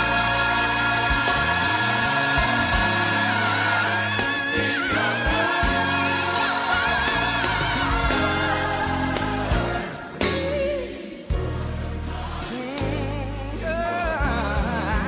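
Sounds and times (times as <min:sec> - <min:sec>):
voices singing gospel music: 0:00.0 - 0:15.0.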